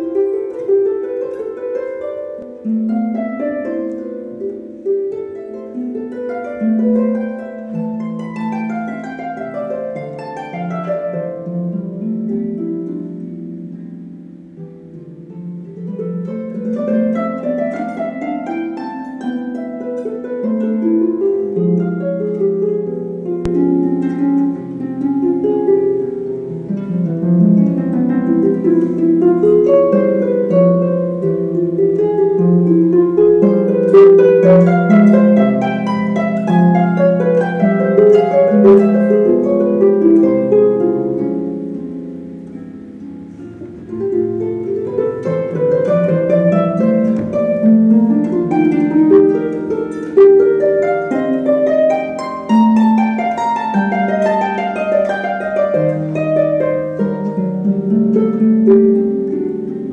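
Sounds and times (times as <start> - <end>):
harp playing slow piece: 0.0 - 59.9.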